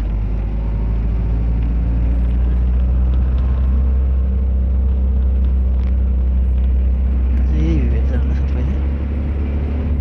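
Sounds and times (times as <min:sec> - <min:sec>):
bus engine rumbling: 0:00.0 - 0:10.0
road noise: 0:00.0 - 0:10.0.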